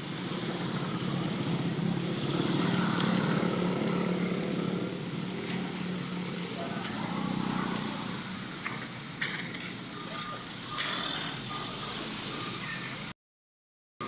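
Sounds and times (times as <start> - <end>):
engine running: 0.0 - 13.1.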